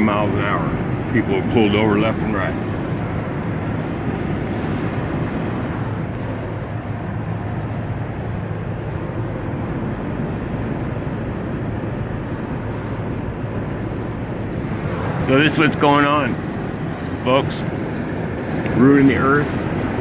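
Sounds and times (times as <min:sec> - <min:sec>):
low engine hum: 0:00.0 - 0:20.0
road and wind noise: 0:00.0 - 0:20.0.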